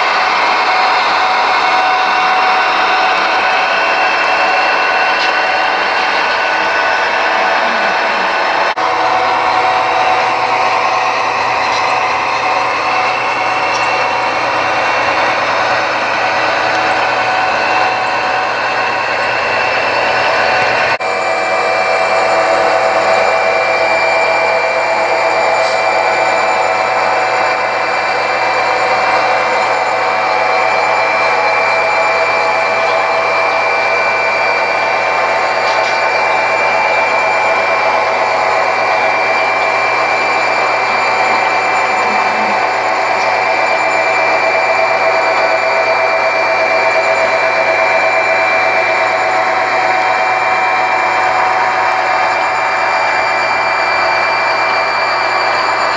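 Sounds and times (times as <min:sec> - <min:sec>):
model train running with motor whine: 0:00.0 - 0:55.9.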